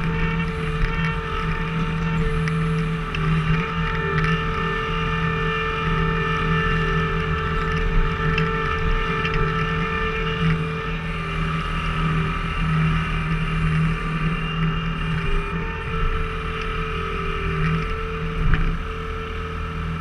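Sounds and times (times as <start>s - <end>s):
skid steer engine running: 0.0s - 20.0s
steady hydraulic whine: 0.0s - 20.0s.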